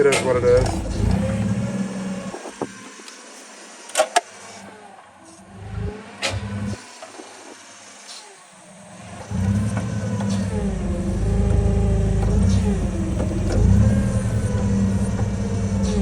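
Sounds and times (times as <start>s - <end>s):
forklift engine revving: 0.0s - 3.4s, 4.4s - 7.8s, 8.7s - 16.0s.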